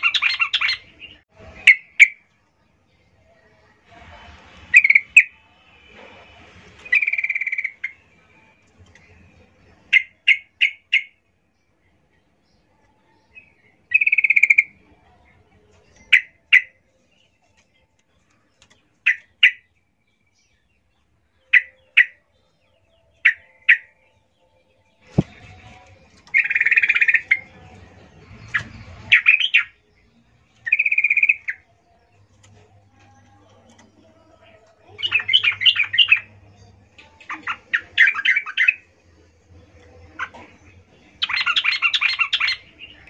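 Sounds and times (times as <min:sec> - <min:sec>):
bird chirping: 0:00.0 - 0:02.3, 0:04.7 - 0:43.0.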